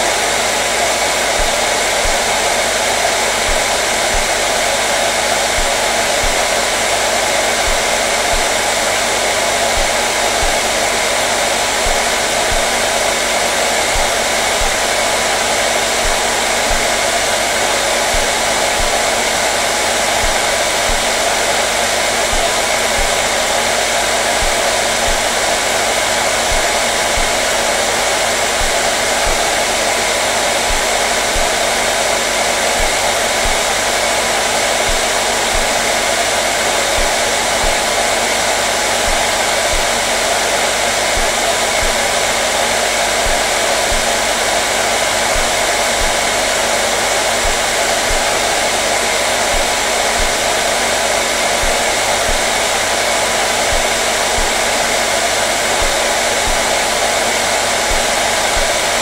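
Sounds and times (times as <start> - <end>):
hair dryer blowing: 0.0 - 59.0.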